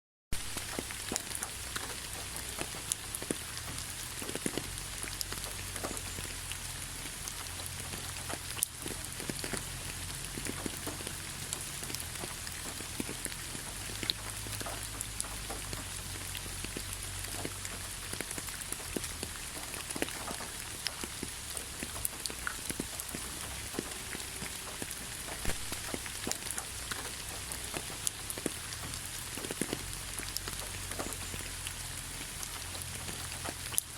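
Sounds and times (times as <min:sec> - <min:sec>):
raindrops ticking on a surface: 0:00.3 - 0:33.9.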